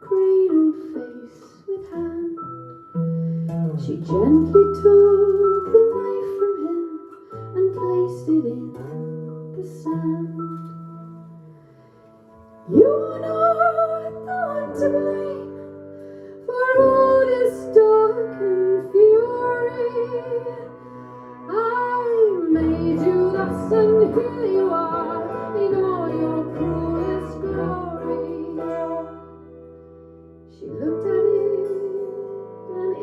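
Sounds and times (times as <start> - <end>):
woman singing: 0.0 - 2.9, 3.6 - 11.5, 12.7 - 29.5, 30.5 - 33.0.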